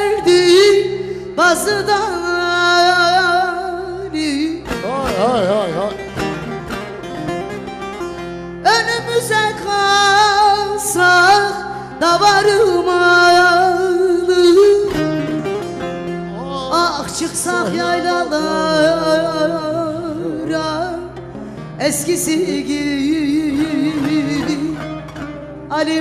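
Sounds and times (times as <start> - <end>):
woman singing into a microphone: 0.0 - 5.8, 8.6 - 15.7, 16.4 - 26.0
plucked-string accompaniment: 0.0 - 26.0.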